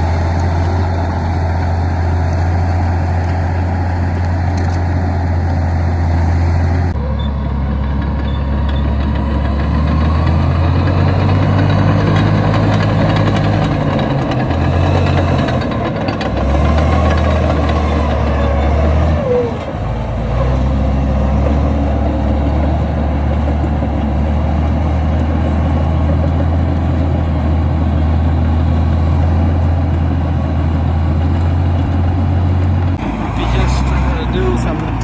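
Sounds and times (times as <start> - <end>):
bulldozer diesel engine drone: 0.0 - 35.0.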